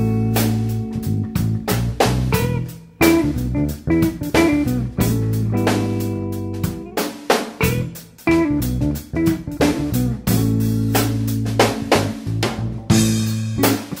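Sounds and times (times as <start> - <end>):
bass guitar: 0.0 - 14.0
drum kit beat: 0.0 - 14.0
electric guitar: 0.0 - 14.0.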